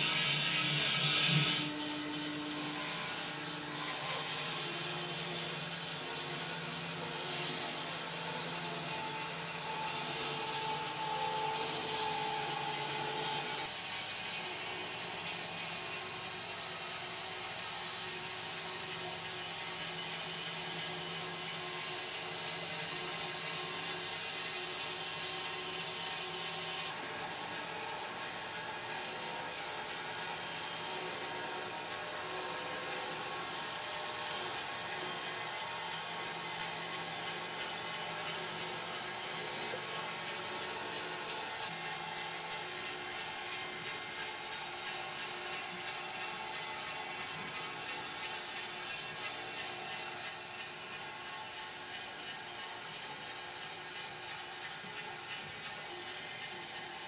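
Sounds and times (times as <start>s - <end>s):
bandsaw blade hissing through wood: 0.0s - 57.0s.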